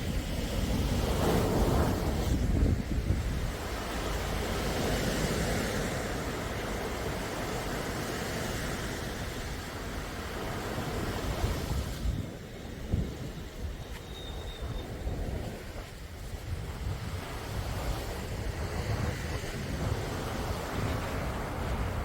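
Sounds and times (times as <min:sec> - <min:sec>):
sea waves surf hiss: 0:00.0 - 0:22.0
wind rumble on microphone: 0:00.0 - 0:22.0.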